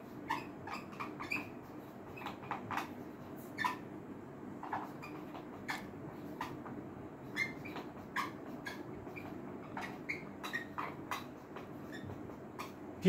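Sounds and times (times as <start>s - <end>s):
whiteboard marker squeaking: 0.0s - 3.9s, 4.6s - 12.8s.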